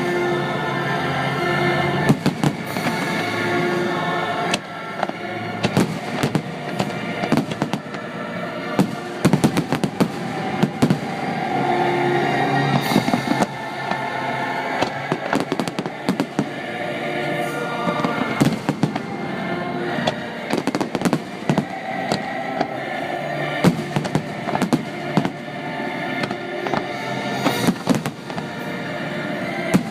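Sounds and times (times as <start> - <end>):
music: 0.0 - 29.9
fireworks exploding: 2.0 - 29.9.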